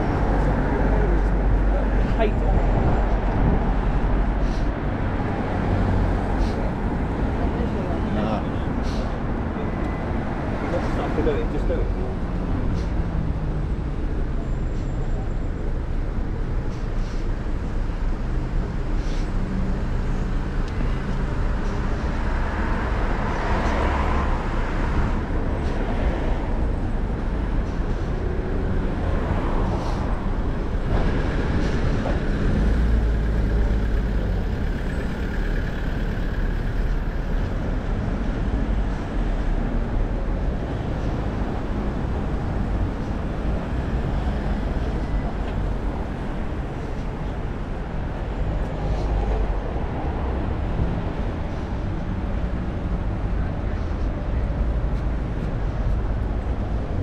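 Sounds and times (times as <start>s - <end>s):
cars passing: 0.0s - 57.0s
heavy vehicle rumble: 0.0s - 57.0s.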